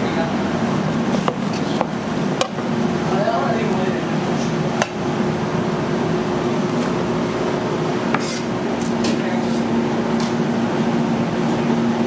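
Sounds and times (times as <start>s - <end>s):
kitchen machinery hum and hiss: 0.0s - 12.0s.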